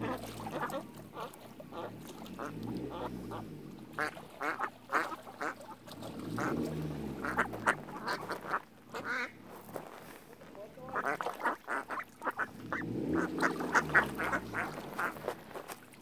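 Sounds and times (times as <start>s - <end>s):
ducks quacking: 0.0s - 9.4s, 10.6s - 15.4s.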